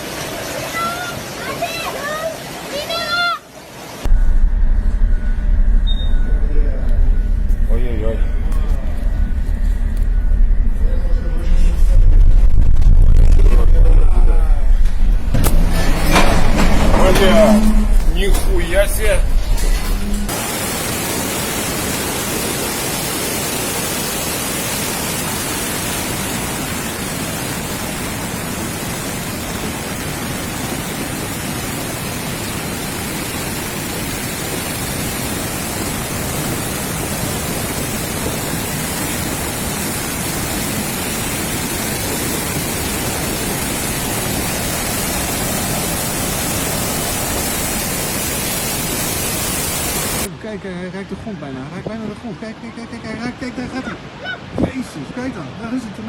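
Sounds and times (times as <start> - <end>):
rain: 0.0 - 50.4, 51.4 - 56.0
wind: 0.0 - 56.0.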